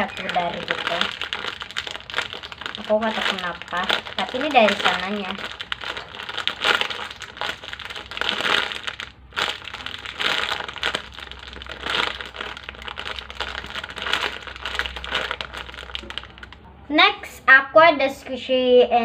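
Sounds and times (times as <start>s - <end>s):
foam squishy toy crinkling: 0.0s - 16.7s.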